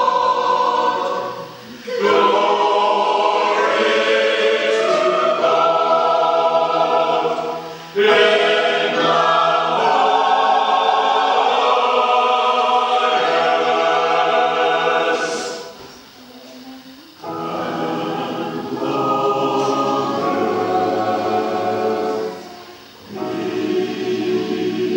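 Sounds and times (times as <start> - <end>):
choir singing a carol: 0.0 - 24.9.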